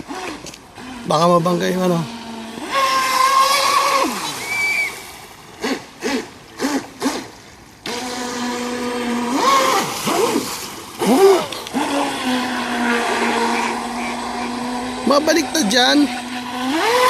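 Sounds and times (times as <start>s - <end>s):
model boat motor whining: 0.0s - 17.0s
splashing water: 0.0s - 17.0s.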